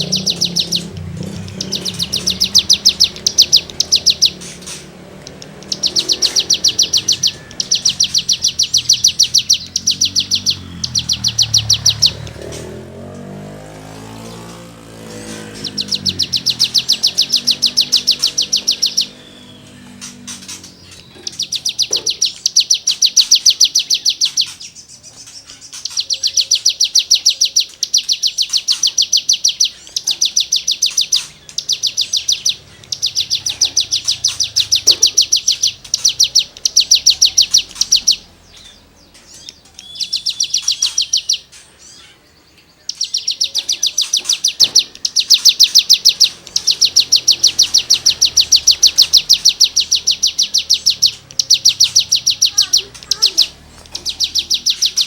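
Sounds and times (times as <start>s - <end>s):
songbird rattling trills: 0.0s - 55.0s.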